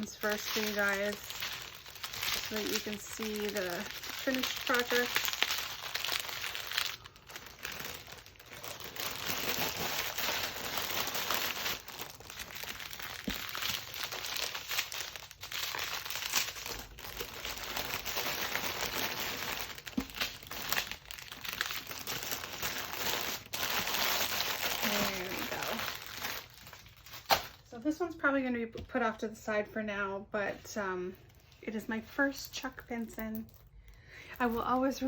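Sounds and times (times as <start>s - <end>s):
plastic packaging crinkling: 0.0s - 27.7s, 32.3s - 35.0s.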